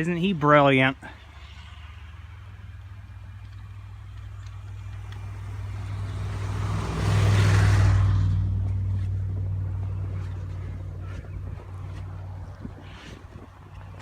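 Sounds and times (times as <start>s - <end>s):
car passing on snowy road: 1.0s - 14.0s.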